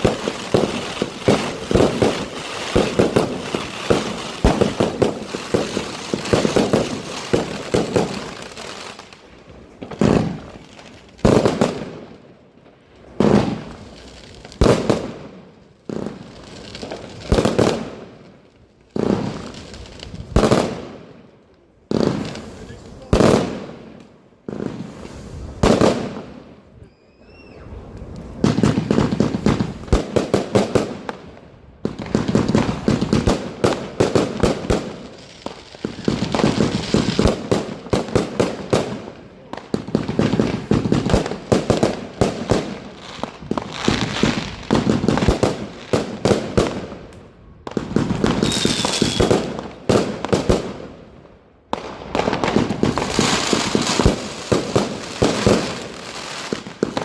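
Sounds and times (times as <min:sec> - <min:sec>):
firework cake firing volleys: 0:00.0 - 0:57.0.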